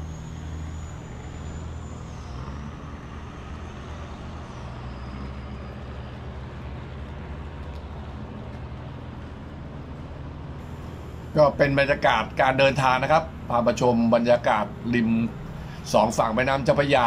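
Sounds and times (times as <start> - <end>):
faint high whine: 0.0 - 17.0
large diesel engine humming: 0.0 - 17.0.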